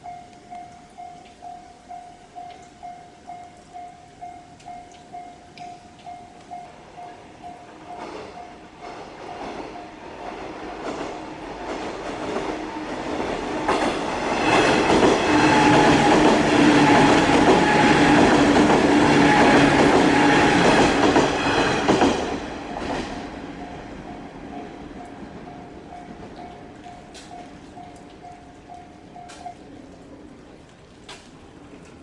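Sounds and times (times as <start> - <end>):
faint crossing warning bell: 0.0 - 10.4, 14.3 - 30.0
electric train passing: 0.0 - 32.0.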